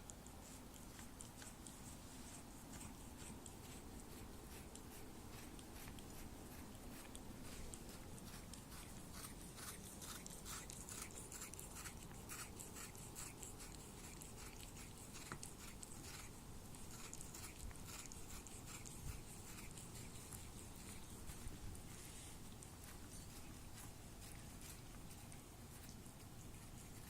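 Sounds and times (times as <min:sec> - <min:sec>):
cat chewing and licking: 0:00.0 - 0:27.0.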